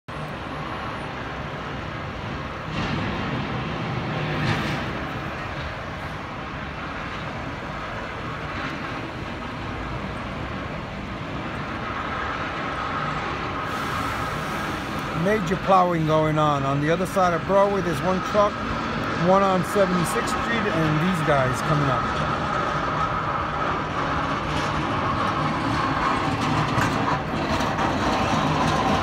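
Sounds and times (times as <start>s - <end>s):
street noise: 0.1s - 29.0s
truck engine rumble: 0.1s - 29.0s.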